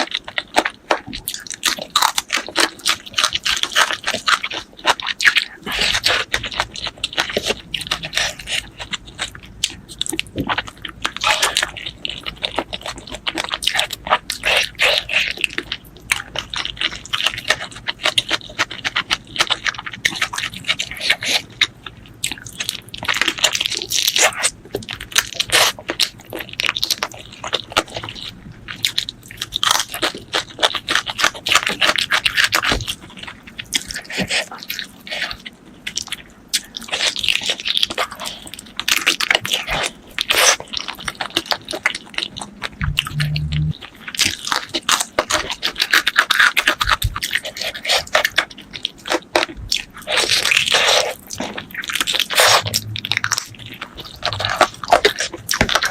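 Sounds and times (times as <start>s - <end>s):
wet chewing and crunching: 0.0s - 55.9s.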